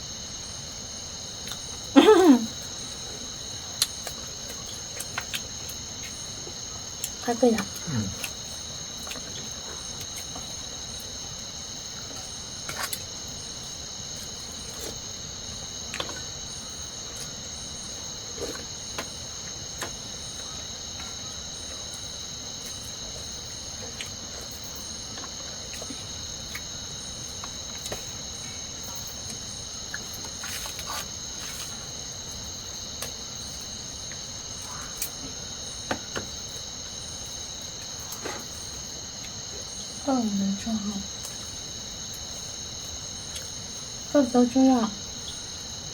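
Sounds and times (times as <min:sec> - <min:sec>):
high-pitched insect chorus: 0:00.0 - 0:45.9.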